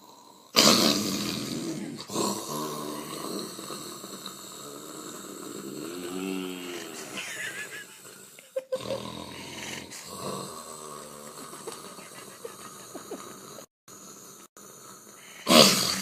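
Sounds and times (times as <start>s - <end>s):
person snoring heavily: 0.0s - 16.0s.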